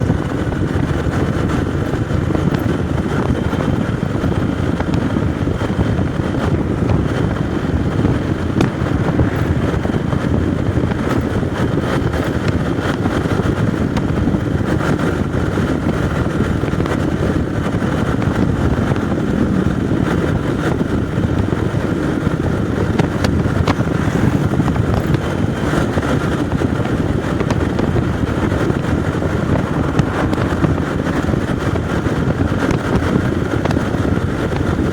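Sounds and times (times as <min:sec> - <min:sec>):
motorcycle engine and road rumble: 0:00.0 - 0:34.9
wind noise on microphone: 0:00.0 - 0:34.9.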